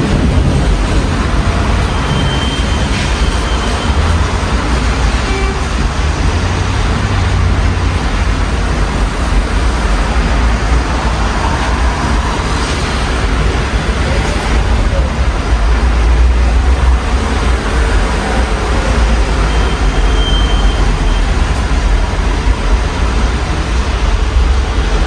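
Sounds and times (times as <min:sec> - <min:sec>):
city street traffic: 0:00.0 - 0:25.0
steady rain: 0:00.0 - 0:25.0.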